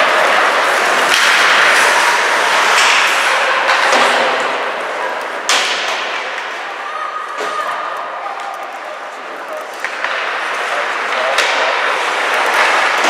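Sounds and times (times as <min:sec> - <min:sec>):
hockey sticks clacking: 0:00.0 - 0:13.0
skates scraping ice: 0:00.0 - 0:13.0.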